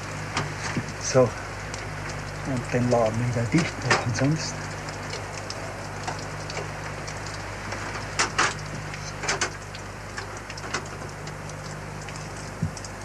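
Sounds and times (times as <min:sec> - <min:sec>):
steady low hum and hiss: 0:00.0 - 0:13.0.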